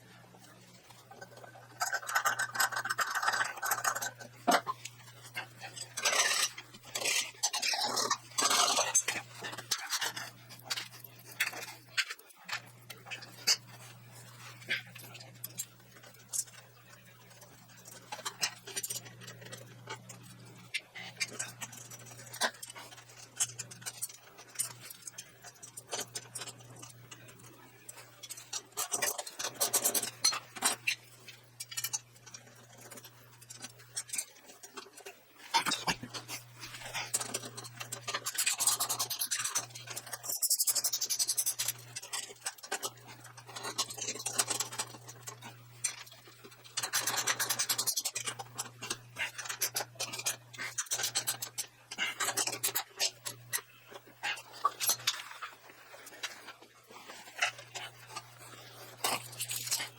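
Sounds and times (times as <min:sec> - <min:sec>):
steady low hum: 0:00.0 - 0:59.9
scattered ticks: 0:00.4 - 0:59.9.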